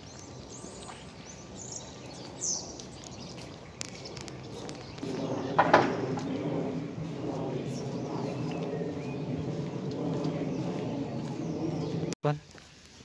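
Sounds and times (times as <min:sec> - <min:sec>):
birds chirping: 0:00.0 - 0:12.2
outdoor ambience: 0:00.0 - 0:13.0.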